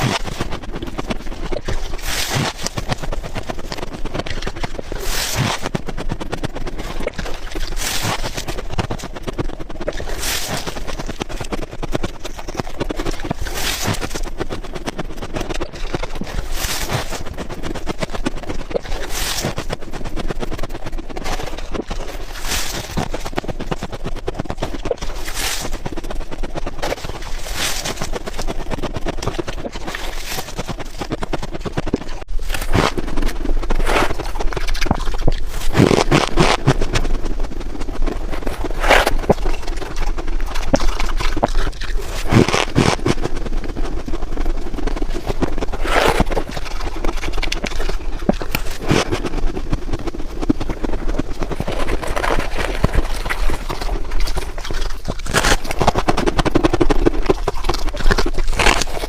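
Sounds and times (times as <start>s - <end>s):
ice being crunched and chewed: 0.0s - 59.0s.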